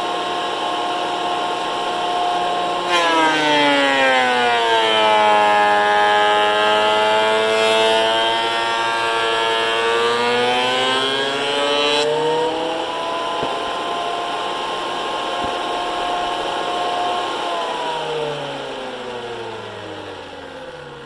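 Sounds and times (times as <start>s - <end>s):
thickness planer cutting wood: 0.0s - 20.9s
planer motor whining: 0.0s - 21.0s.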